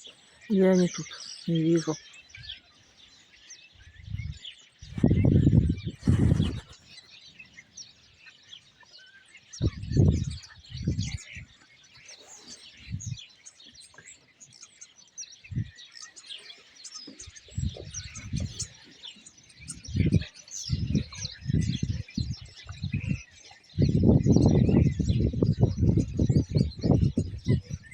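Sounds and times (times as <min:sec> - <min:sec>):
flock of starlings chattering: 0:00.0 - 0:27.9.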